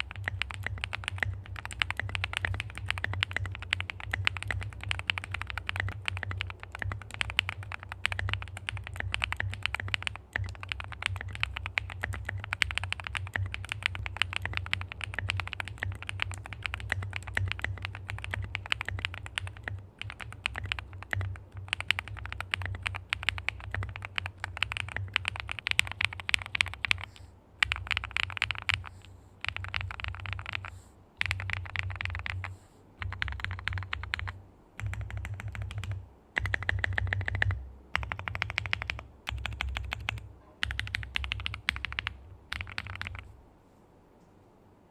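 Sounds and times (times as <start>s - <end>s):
fast mechanical keyboard typing: 0.0s - 43.2s.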